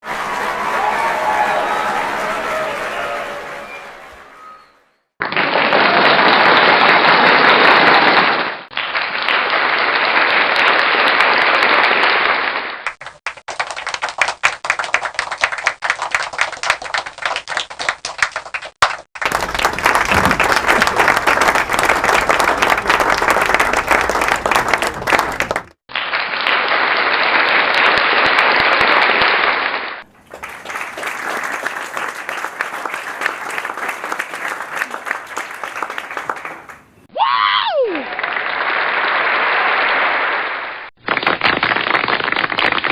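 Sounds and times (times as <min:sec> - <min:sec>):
crowd applause: 0:00.0 - 0:37.0, 0:37.7 - 0:42.9.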